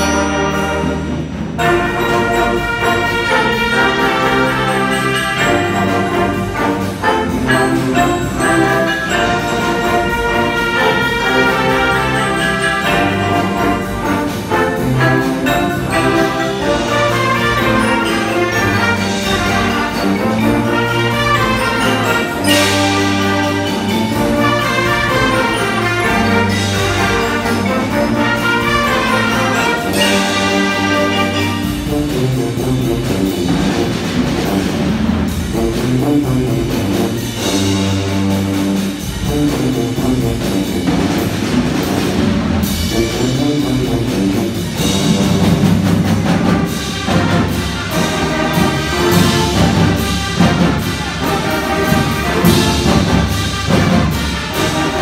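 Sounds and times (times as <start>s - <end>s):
marching band playing: 0.0s - 55.0s
percussion: 0.0s - 55.0s.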